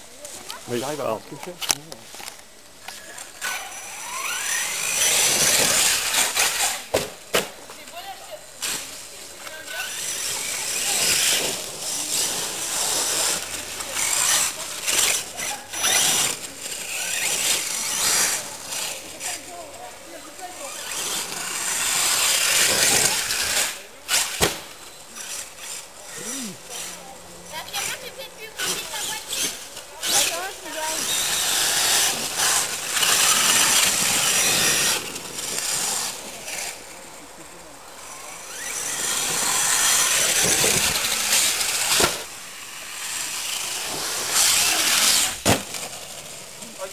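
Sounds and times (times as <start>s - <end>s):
toy truck motor whining: 1.5s - 6.9s, 7.9s - 46.5s.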